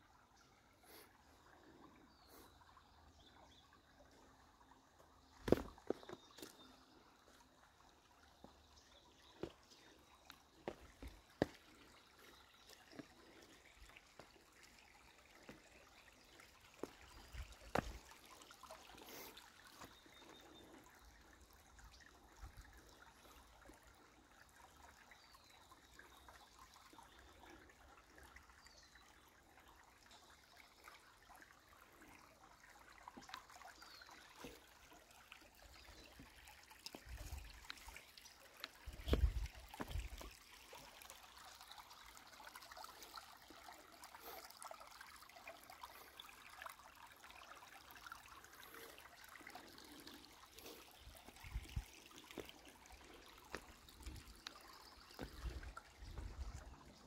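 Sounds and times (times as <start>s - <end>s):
water trickling over stones: 0.0s - 57.0s.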